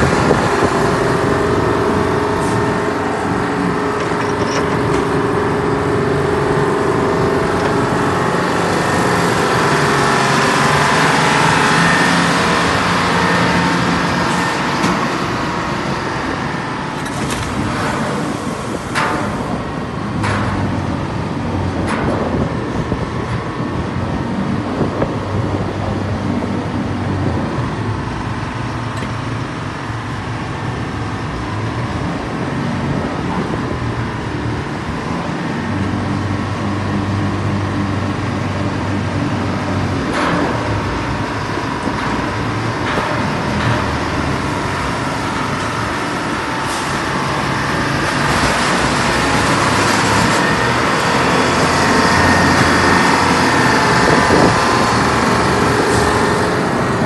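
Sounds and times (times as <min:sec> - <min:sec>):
crane machine running: 0:00.0 - 0:57.0.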